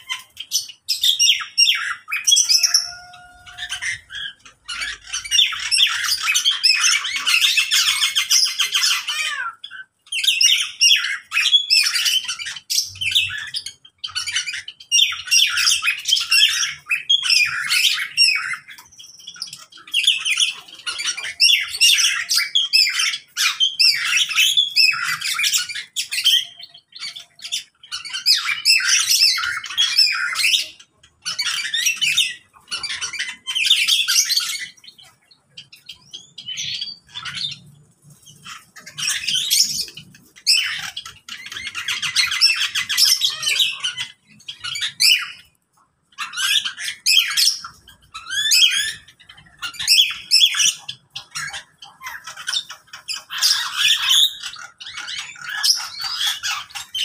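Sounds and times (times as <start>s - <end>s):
birds squawking and chirping: 0.0s - 57.0s.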